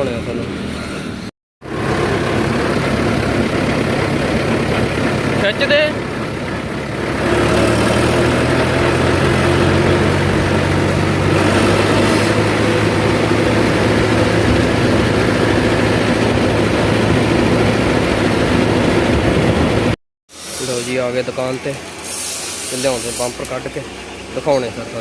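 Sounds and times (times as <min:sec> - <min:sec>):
tractor diesel engine running: 0:00.0 - 0:20.0, 0:22.8 - 0:25.0.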